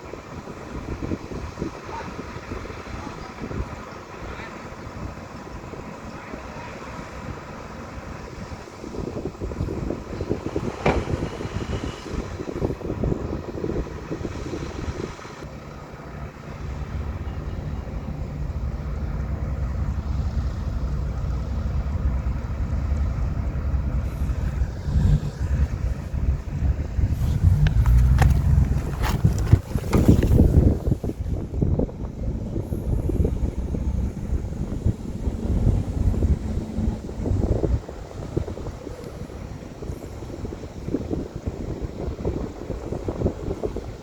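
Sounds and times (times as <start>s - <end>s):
heavy machinery diesel engines: 0.0s - 44.0s.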